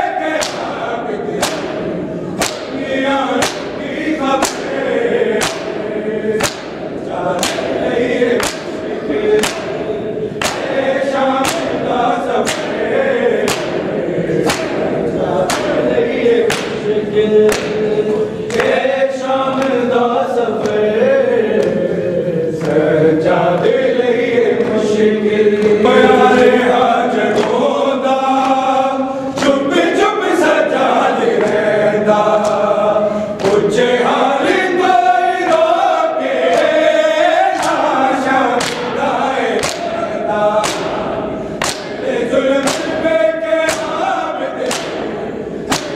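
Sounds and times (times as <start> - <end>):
men chanting in unison: 0.0 - 45.9.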